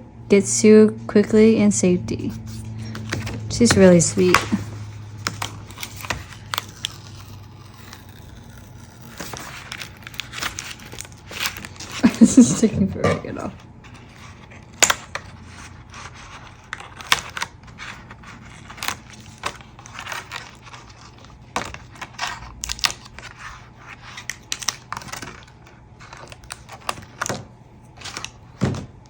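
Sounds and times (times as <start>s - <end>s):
packaging crinkling and peeling: 2.3s - 29.0s.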